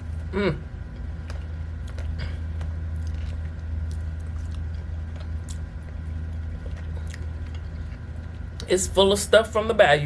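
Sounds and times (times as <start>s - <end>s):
person chewing food: 0.0s - 8.7s
steady low hum: 0.0s - 10.0s.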